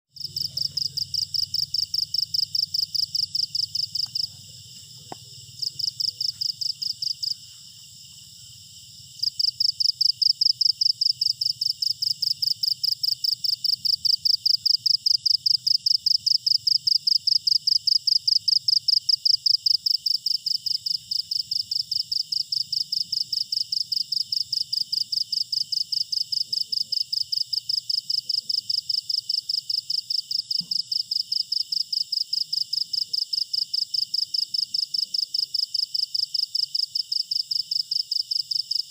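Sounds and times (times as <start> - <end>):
cricket chirping: 0.1 - 38.9.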